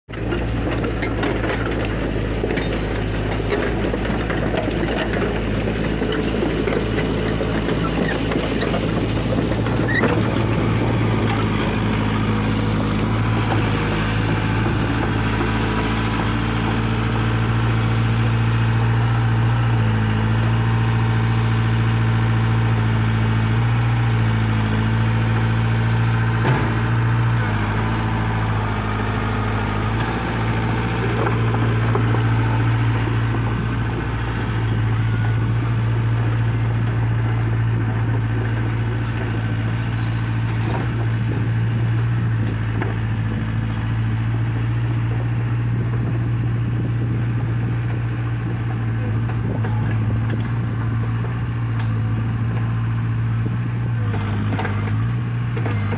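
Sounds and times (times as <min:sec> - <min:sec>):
excavator diesel engine droning: 0:00.1 - 0:55.9.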